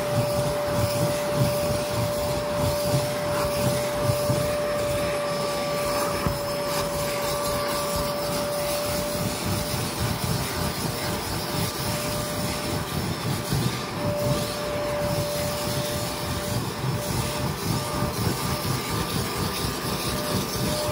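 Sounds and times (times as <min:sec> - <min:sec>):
nozzle scrubbing carpet: 0:00.0 - 0:20.9
vacuum cleaner whine: 0:00.0 - 0:20.9.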